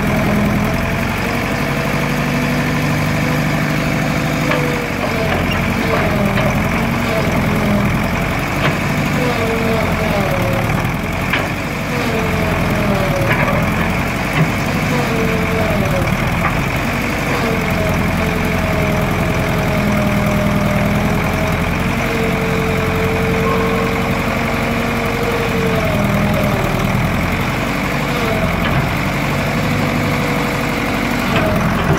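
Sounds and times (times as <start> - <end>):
diesel engine running: 0.0 - 31.9
hydraulic whine: 4.5 - 31.9.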